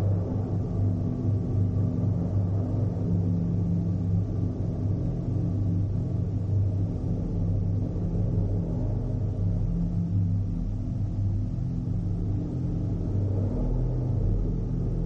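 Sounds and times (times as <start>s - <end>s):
droning hum: 0.0s - 15.0s
low rumble: 0.0s - 15.0s.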